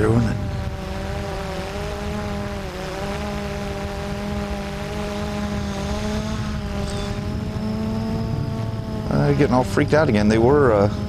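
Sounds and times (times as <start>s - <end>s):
quadcopter motors humming: 0.0s - 11.0s.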